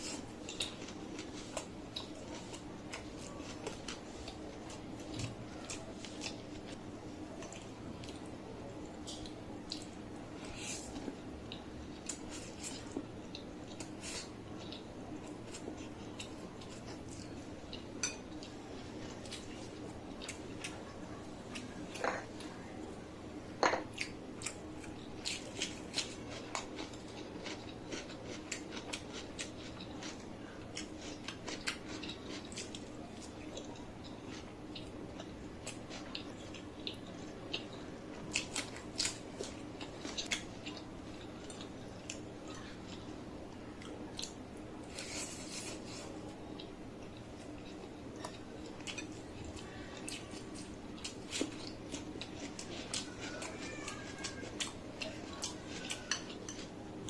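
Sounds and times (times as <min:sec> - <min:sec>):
person chewing food: 0:00.0 - 0:22.6, 0:23.8 - 0:57.0.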